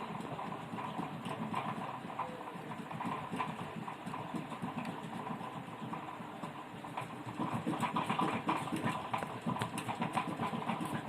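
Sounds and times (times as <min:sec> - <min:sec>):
rapid clatter of small clicks: 0:00.0 - 0:11.0.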